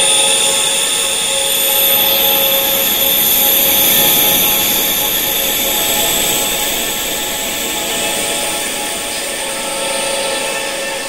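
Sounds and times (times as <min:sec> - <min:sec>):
steady hiss: 0:00.4 - 0:11.0
wind chimes ringing: 0:01.0 - 0:11.0.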